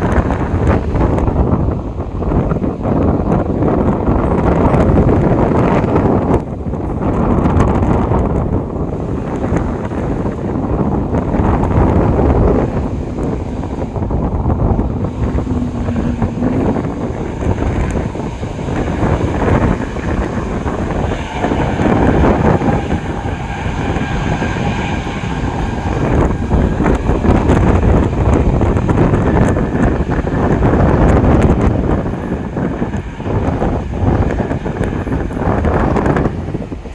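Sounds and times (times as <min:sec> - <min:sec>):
faint engine whine: 0:00.0 - 0:36.9
jet engines rumbling: 0:00.0 - 0:36.9
wind buffeting microphone: 0:00.0 - 0:36.9.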